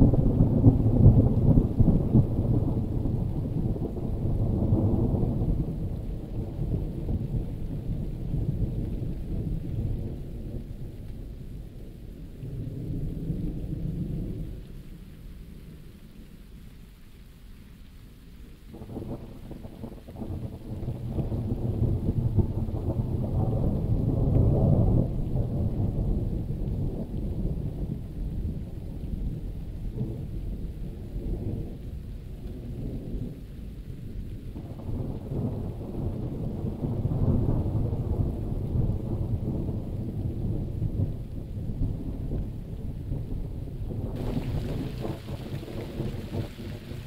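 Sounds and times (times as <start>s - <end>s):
rolling thunder: 0.0s - 11.7s, 18.8s - 47.0s
falling rain: 0.0s - 47.0s.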